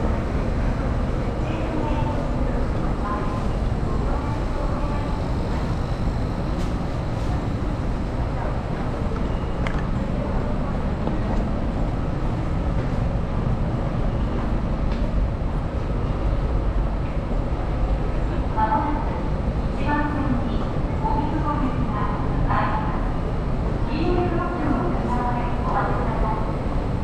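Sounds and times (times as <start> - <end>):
railway station low rumble: 0.0 - 27.0.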